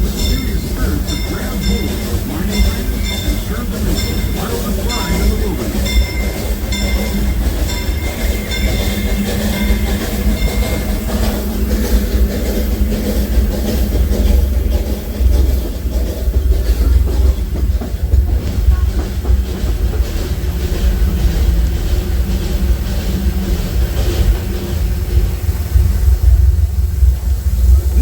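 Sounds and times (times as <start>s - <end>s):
train rumbling on track: 0.0s - 28.0s
wheels clicking over rail joints: 0.0s - 28.0s.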